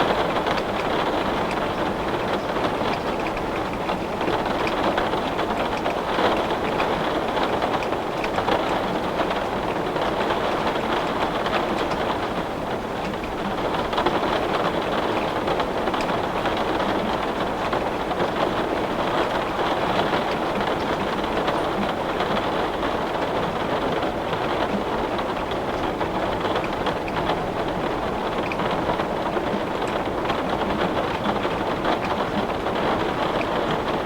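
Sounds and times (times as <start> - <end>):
heavy rain on a window: 0.0 - 34.0.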